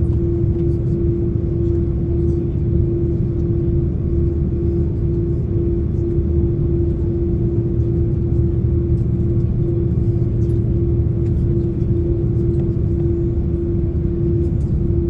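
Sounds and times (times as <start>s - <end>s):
jet engines heard from cabin: 0.0s - 15.0s.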